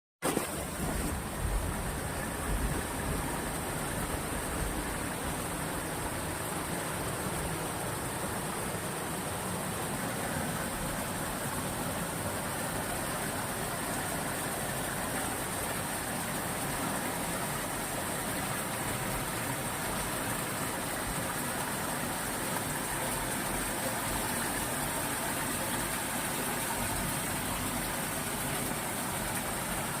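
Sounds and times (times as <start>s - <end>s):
rushing water: 0.2s - 30.0s.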